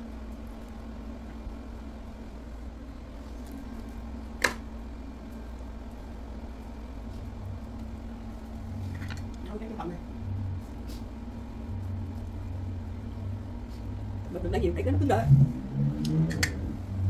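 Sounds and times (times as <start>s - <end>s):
electric hot pot humming: 0.0s - 15.2s, 16.0s - 17.0s.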